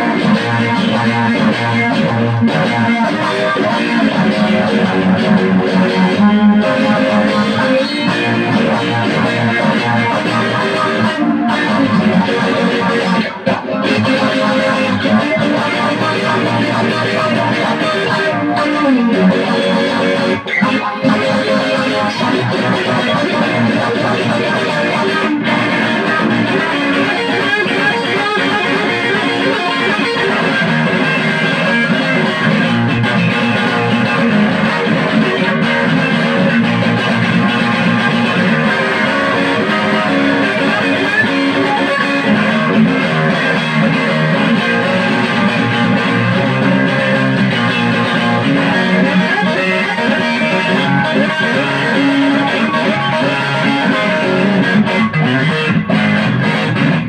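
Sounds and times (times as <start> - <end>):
electric guitar playing: 0.0 - 57.0.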